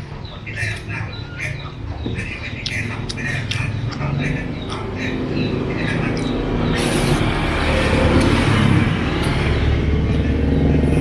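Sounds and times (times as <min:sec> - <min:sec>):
vehicle engine pulsing: 0:00.0 - 0:11.0.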